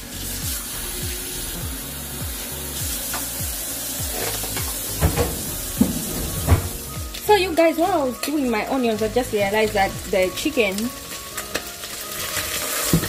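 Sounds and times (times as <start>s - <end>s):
background music with low beat: 0.0s - 12.1s.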